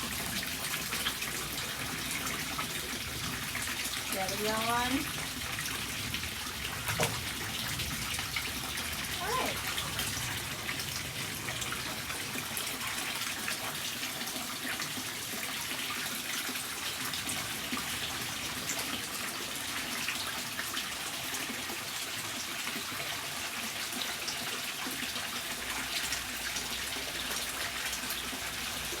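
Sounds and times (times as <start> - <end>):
water running into a bath: 0.0 - 29.0.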